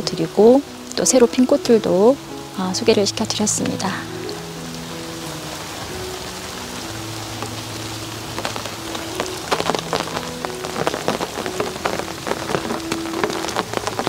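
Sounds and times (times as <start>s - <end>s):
raindrops striking close by: 0.0s - 14.0s
steady hiss of rain: 0.0s - 14.0s.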